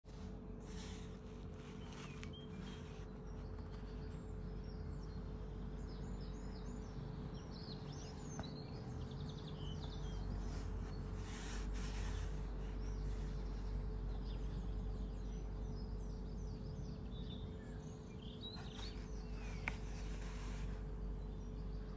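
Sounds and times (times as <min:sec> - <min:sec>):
birds chirping: 0:00.1 - 0:21.9
faint constant hum: 0:00.1 - 0:21.9
low background rumble: 0:00.1 - 0:21.9.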